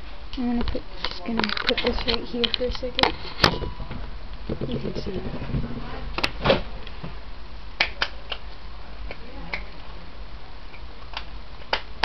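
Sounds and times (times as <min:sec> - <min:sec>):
faint low steady hum: 0:00.0 - 0:12.0.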